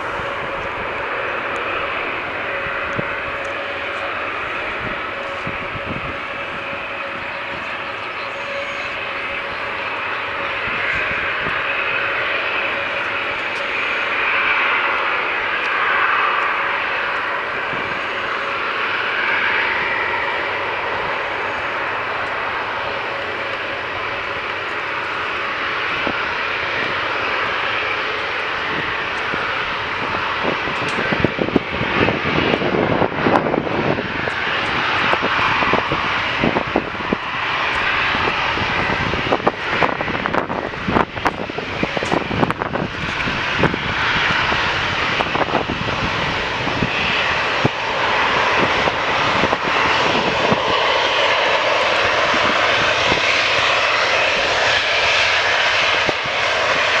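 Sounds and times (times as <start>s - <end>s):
jet engine roar: 0.0s - 57.0s.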